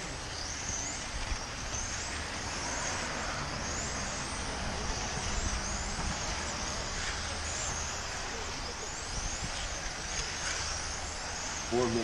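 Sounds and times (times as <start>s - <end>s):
steady low rumble: 0.0s - 11.8s
electric motors whining: 0.0s - 12.0s.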